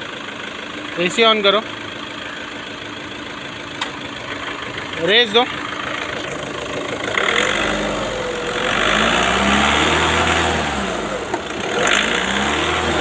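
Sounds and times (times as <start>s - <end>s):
car engine revving: 1.0s - 13.0s.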